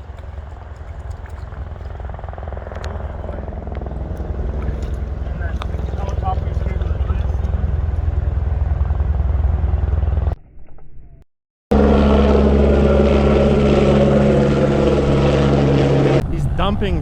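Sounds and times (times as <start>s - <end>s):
helicopter rotor and engine drone: 0.0s - 10.4s, 11.7s - 17.0s.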